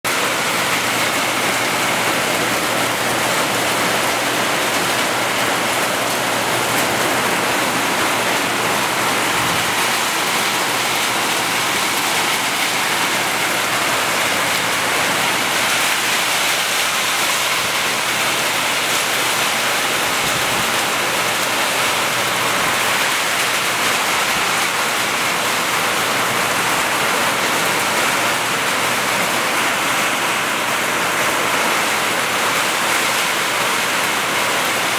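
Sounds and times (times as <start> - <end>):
heavy rain on metal awnings: 0.0 - 34.9
runoff water streaming: 0.1 - 34.9.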